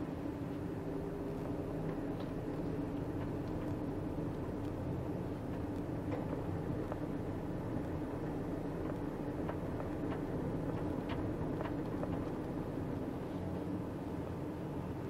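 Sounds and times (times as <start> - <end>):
vehicle engine rumble: 0.1 - 15.0.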